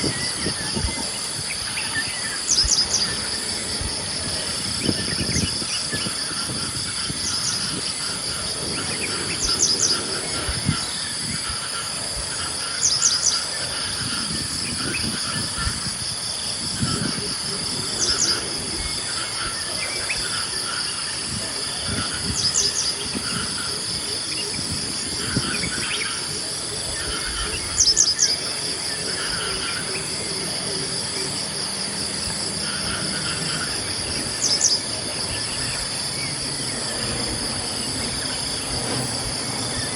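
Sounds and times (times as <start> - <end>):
birds chirping softly: 0.0 - 39.9
insect chorus: 0.0 - 39.9.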